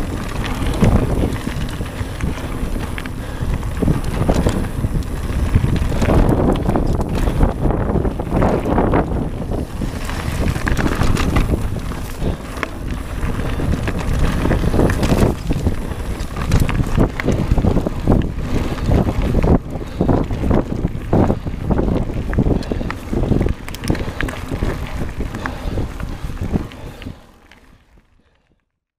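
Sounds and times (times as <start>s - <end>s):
tyres crunching on gravel: 0.0s - 27.7s
bike rattling and knocking: 0.0s - 27.9s
wind buffeting microphone: 0.0s - 28.4s.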